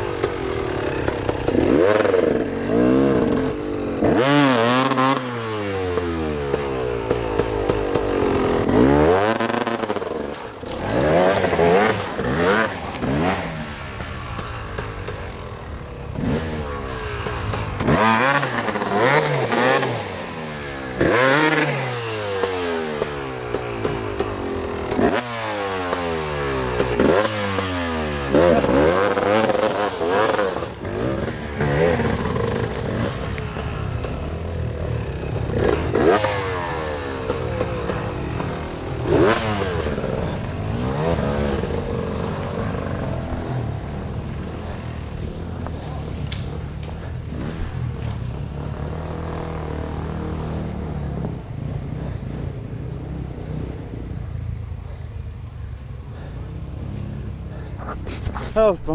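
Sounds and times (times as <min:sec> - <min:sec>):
clatter: 0:00.0 - 0:53.4
dirt bike engine revving: 0:00.0 - 0:58.9.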